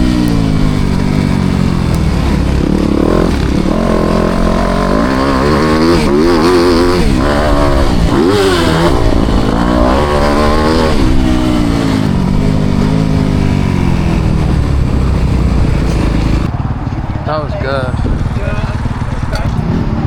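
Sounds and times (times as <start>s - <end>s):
motocross bike engine revving: 0.0s - 20.0s.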